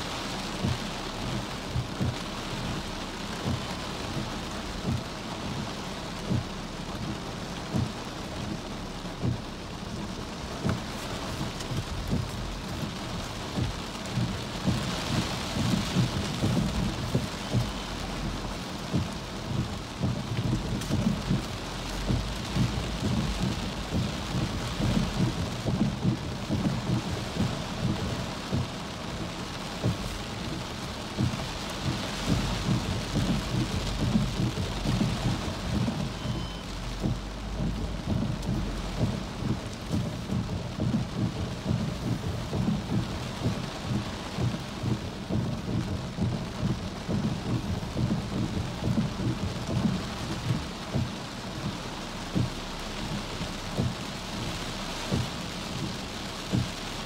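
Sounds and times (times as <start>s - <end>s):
heavy rain on car: 0.0s - 57.0s
dull low knocks: 0.3s - 57.0s.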